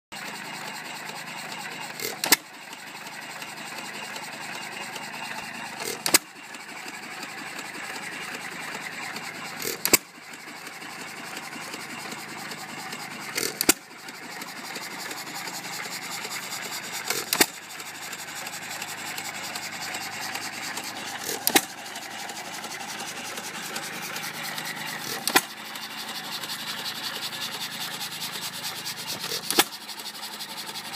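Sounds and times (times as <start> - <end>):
engine ticking rapidly: 0.1 - 30.9.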